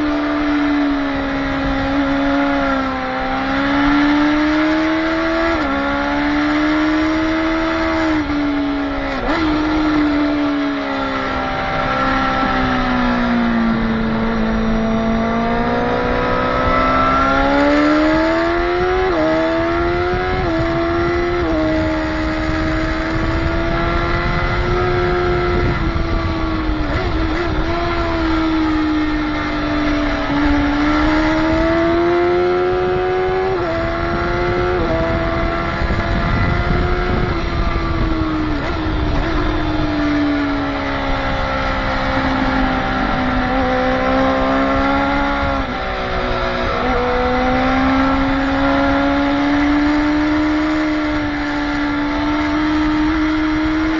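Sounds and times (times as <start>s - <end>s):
motorcycle engine revving: 0.0s - 53.9s
wind rush: 0.0s - 53.9s.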